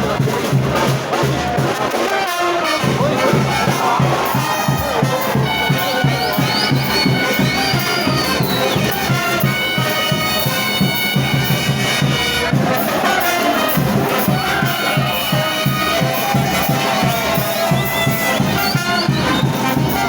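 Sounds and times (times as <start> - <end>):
brass band playing: 0.0 - 20.0
fast drum beat: 0.0 - 20.0.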